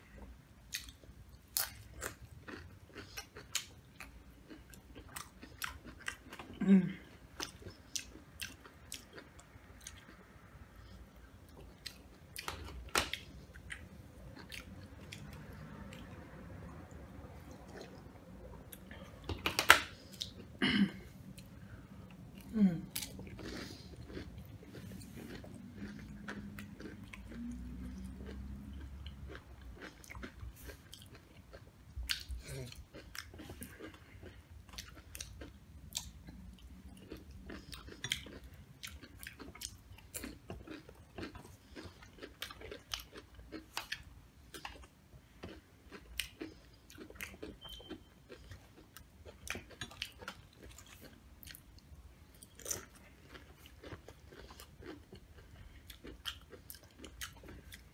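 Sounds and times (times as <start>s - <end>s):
chewing crunchy tortilla chips: 0.0s - 57.9s.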